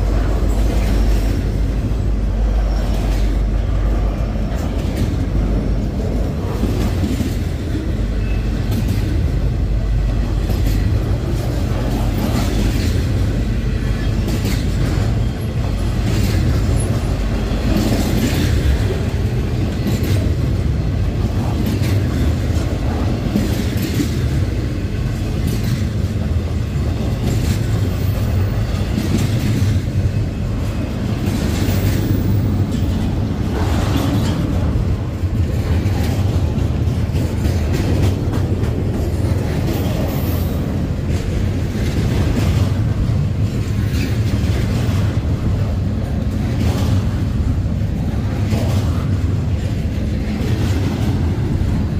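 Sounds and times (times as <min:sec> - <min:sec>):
freight train wheels rumbling: 0:00.0 - 0:51.9
wheels clacking on track: 0:00.0 - 0:51.9.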